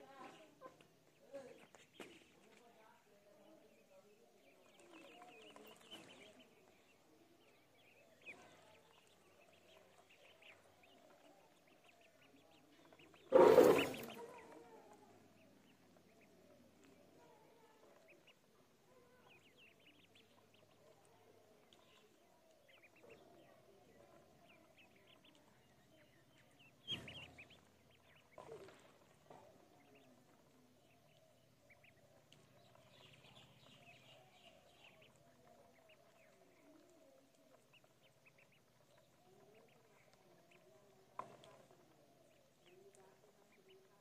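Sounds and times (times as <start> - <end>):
ducklings peeping: 3.2 - 44.0.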